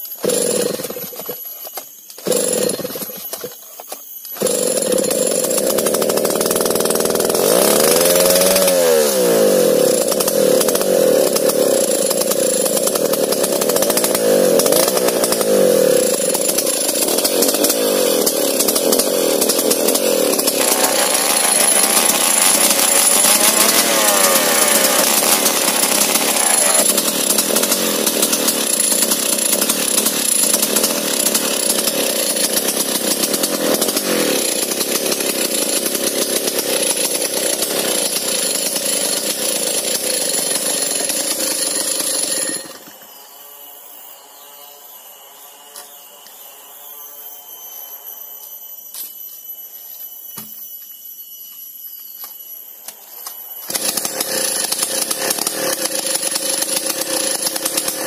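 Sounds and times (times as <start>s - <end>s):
chainsaw cutting log: 0.0s - 43.0s, 53.6s - 58.0s.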